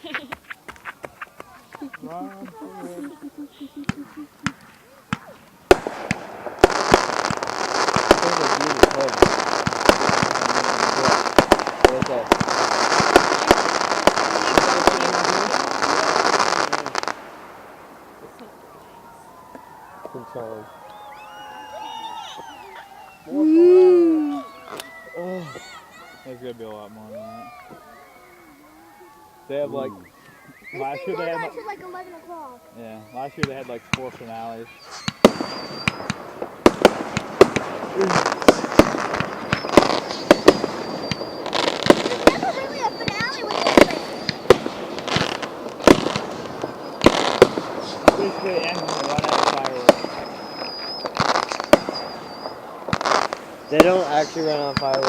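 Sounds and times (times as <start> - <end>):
fireworks bangs: 0.0 - 55.0
fireworks crackling: 0.0 - 55.0
high firework whistle: 4.0 - 17.2, 18.0 - 32.1, 32.8 - 55.0.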